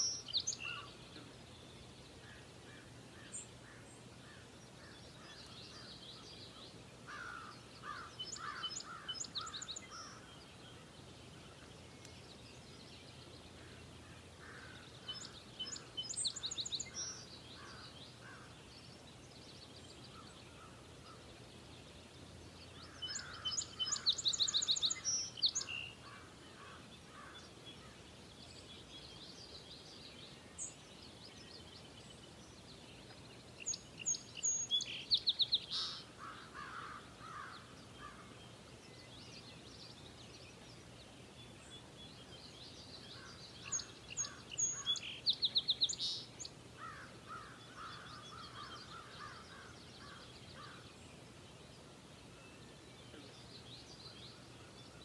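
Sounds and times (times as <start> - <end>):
faint outdoor hiss: 0.0 - 55.0
songbirds trilling: 0.0 - 55.0.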